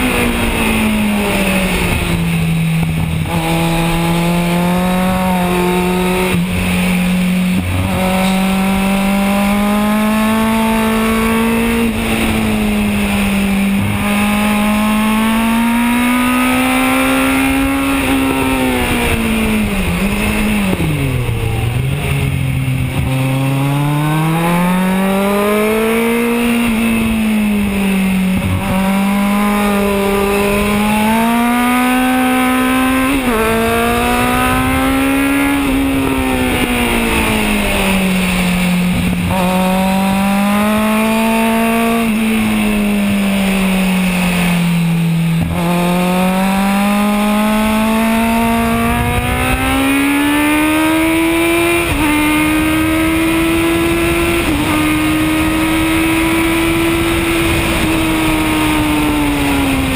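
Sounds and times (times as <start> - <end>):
motorcycle engine revving: 0.0 - 59.9
wind rush over microphone: 0.0 - 59.9.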